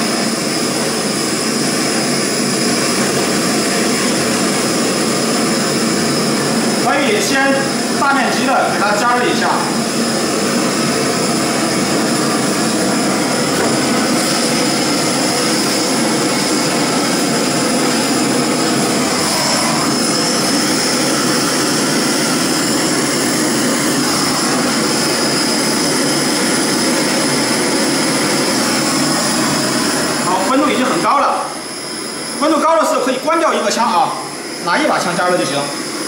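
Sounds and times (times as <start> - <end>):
gas torch flame hiss: 0.0 - 32.4.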